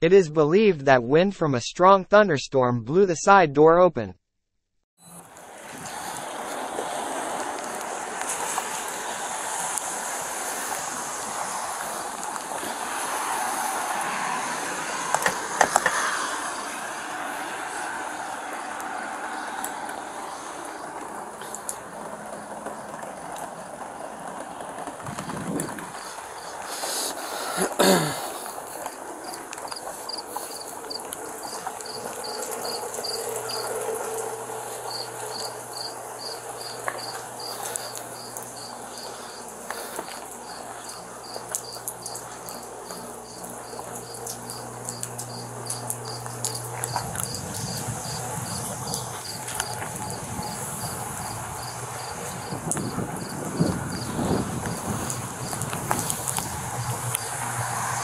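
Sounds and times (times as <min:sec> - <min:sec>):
wet night outdoor noise: 0:05.0 - 0:58.0
crickets chirping: 0:05.7 - 0:58.0.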